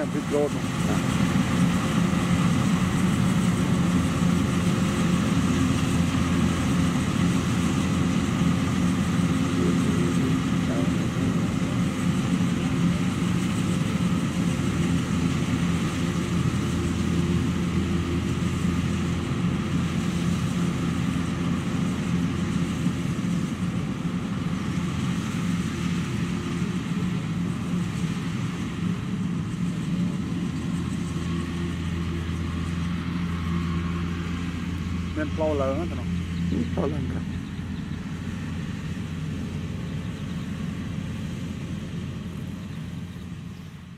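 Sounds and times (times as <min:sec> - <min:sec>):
combine harvester engine drone: 0:00.0 - 0:43.9
harvesting machinery noise: 0:00.0 - 0:43.9.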